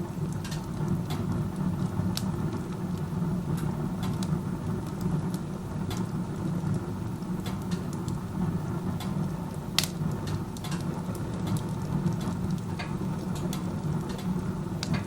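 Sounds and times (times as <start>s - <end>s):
burning wood crackling: 0.0s - 15.0s
stove draft rushing: 0.0s - 15.0s.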